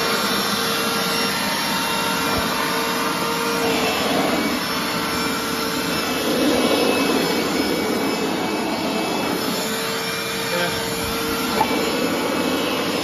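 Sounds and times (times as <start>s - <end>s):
carpet cleaner suction motor: 0.0s - 13.0s.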